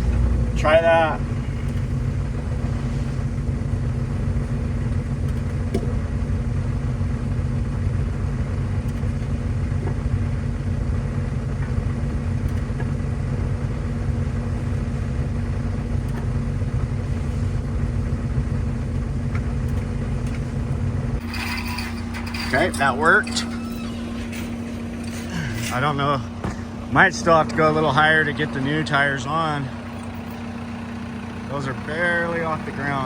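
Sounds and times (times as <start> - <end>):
loader engine rumbling: 0.0 - 33.0.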